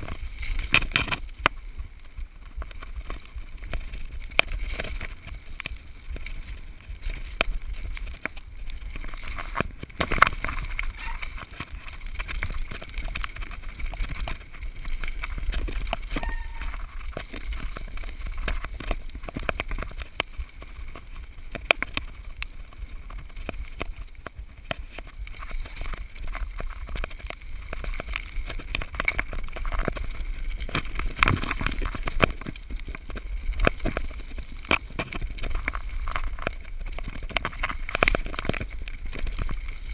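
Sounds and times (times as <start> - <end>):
bike knocking and rattling: 0.0 - 39.9
tyres over dirt and stones: 0.0 - 39.9
wind rumble on microphone: 0.0 - 39.9.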